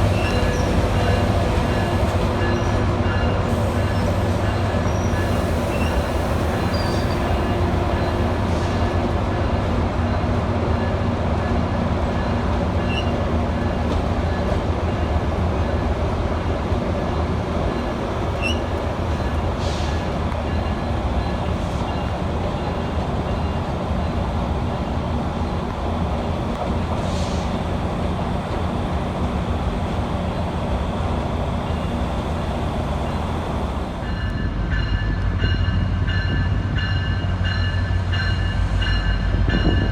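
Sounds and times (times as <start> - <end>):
train rumble and hum: 0.0 - 39.9.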